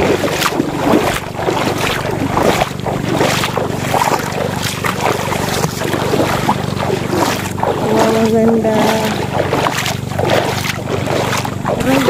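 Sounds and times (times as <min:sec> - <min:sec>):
feet splashing through water: 0:00.0 - 0:12.0
steady low hum: 0:00.0 - 0:12.0.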